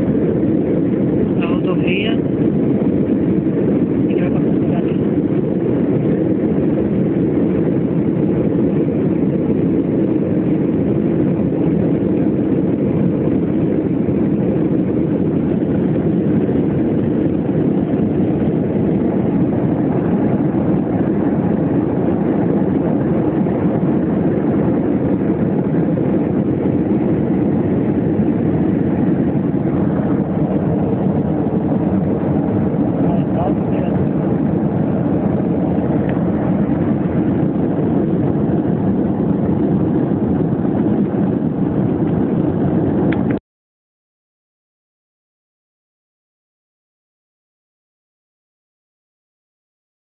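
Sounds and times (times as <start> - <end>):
airliner cabin engine drone: 0.0 - 43.4.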